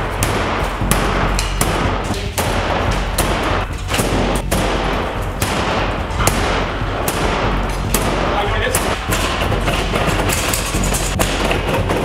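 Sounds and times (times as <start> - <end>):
heavy blows on steel panels: 0.0 - 12.0.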